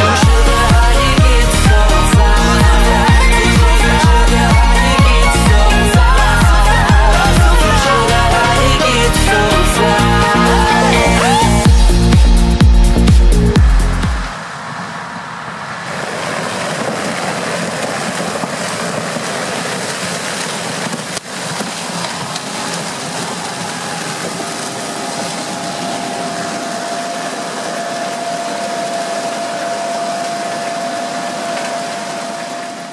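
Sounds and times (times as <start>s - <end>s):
steady mechanical whine: 0.0s - 16.2s, 22.0s - 32.9s.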